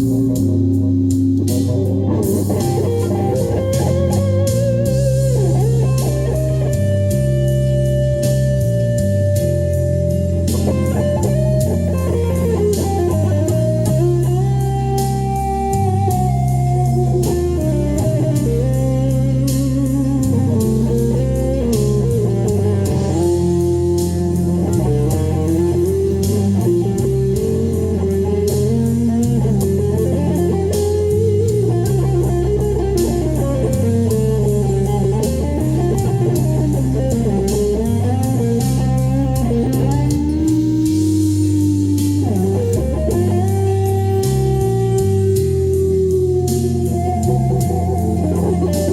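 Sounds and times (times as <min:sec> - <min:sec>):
bass and drums backing track: 0:00.0 - 0:48.9
electric guitar blues lead: 0:00.0 - 0:48.9.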